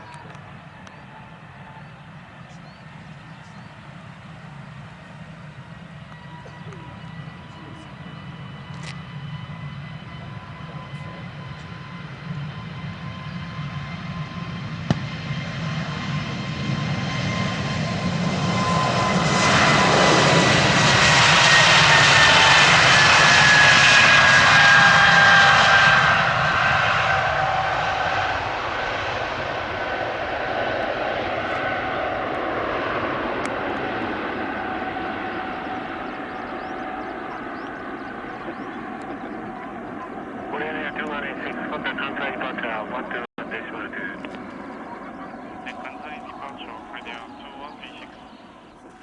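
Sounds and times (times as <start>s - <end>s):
jet engine passing by: 0.0s - 49.0s.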